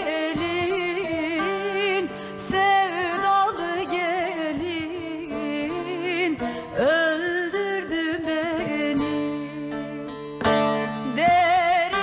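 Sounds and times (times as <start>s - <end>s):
instrumental accompaniment: 0.0s - 12.0s
woman singing folk song: 0.0s - 12.0s.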